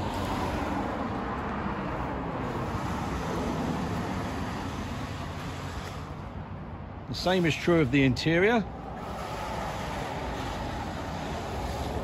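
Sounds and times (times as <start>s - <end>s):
vehicle and road noise: 0.0s - 12.0s.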